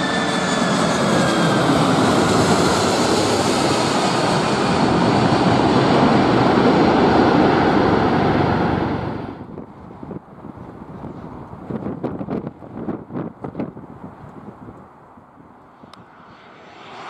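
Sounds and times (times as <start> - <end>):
jet airliner roar and whine: 0.0 - 17.0.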